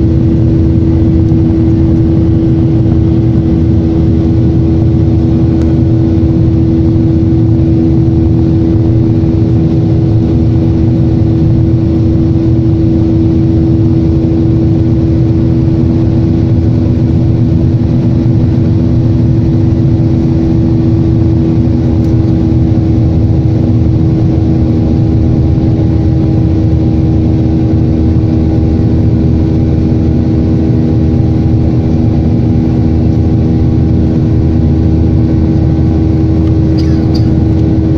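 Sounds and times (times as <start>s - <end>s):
jet engines droning in cabin: 0.0s - 37.9s.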